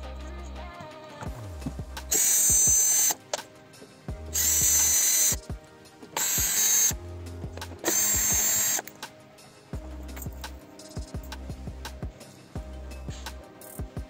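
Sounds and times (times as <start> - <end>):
electronic music with steady beat: 0.0 - 14.0.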